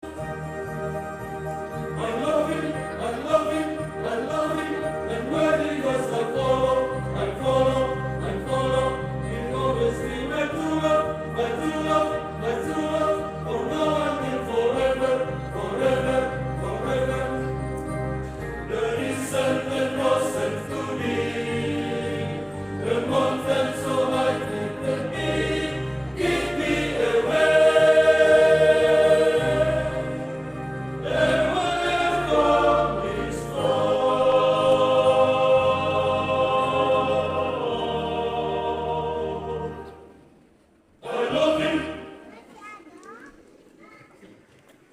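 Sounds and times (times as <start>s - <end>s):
choir singing a hymn: 0.0s - 40.3s, 41.0s - 42.4s
held bass accompaniment: 0.1s - 39.8s.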